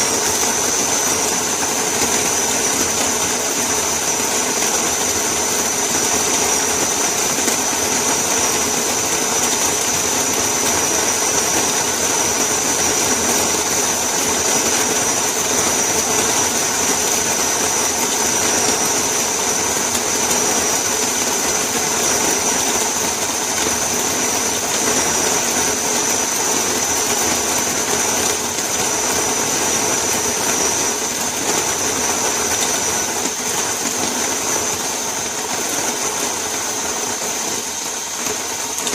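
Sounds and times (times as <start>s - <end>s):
coffee grinder whining: 0.0s - 38.9s.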